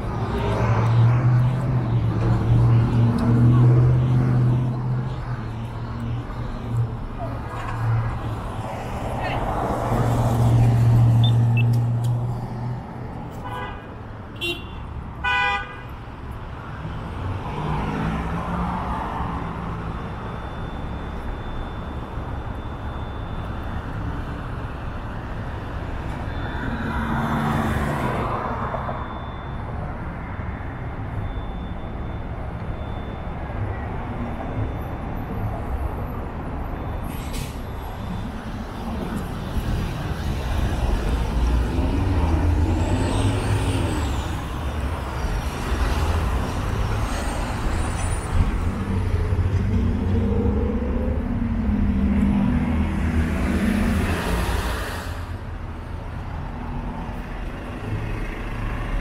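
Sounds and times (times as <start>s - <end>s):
street traffic noise: 0.0s - 59.0s.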